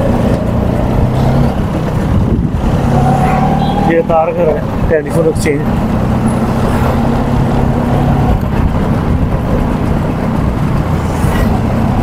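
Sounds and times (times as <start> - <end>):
road and traffic rumble: 0.0 - 12.0
vehicle engine running: 0.0 - 12.0.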